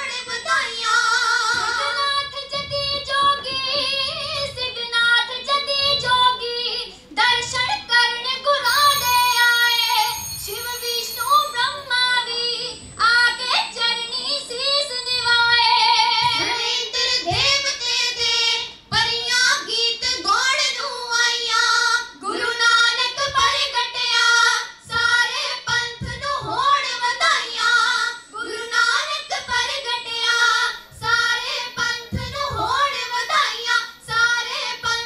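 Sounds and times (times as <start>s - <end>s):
girls singing into microphones: 0.0s - 35.0s.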